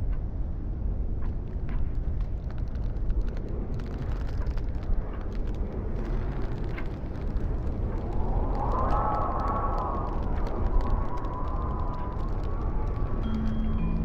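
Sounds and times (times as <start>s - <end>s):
small clicks and ticks: 1.2s - 14.0s
wind rushing: 1.2s - 14.0s.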